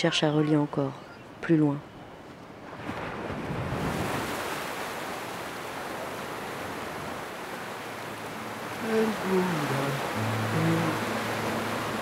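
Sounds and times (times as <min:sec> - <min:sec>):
waves breaking on a beach: 0:02.3 - 0:12.0.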